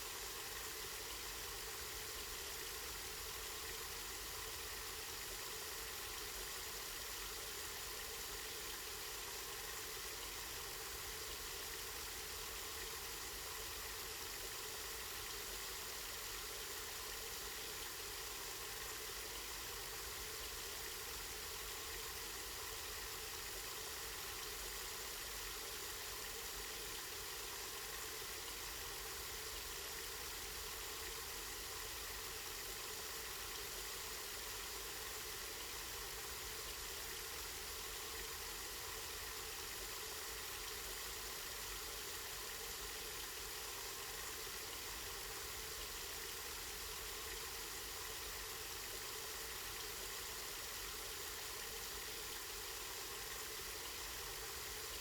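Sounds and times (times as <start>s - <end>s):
spring water flowing and splashing: 0.0s - 55.0s.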